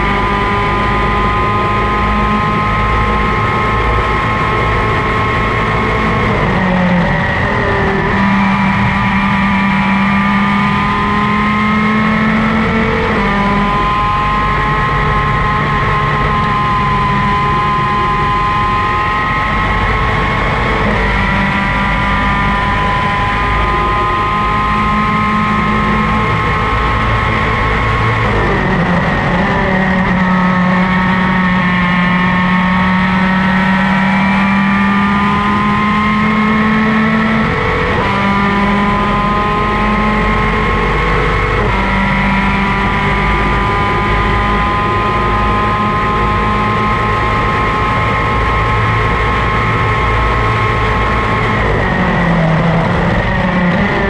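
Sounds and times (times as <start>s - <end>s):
racing engine at high revs: 0.0s - 54.0s.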